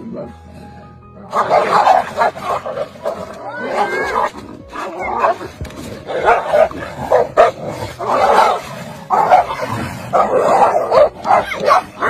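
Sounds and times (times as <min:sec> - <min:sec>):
dogs snarling and barking: 0:00.0 - 0:12.0.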